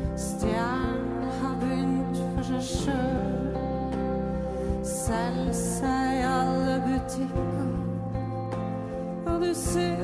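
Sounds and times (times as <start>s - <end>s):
soft band accompaniment: 0.0s - 10.0s
woman singing: 0.0s - 10.0s.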